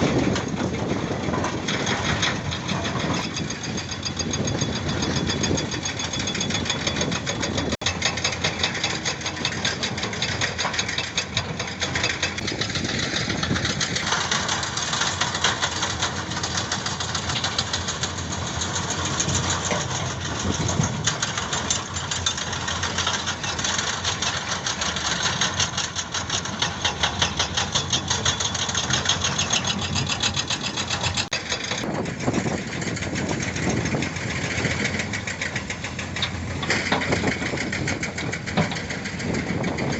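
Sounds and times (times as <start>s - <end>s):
diesel machinery knocking: 0.0s - 39.9s.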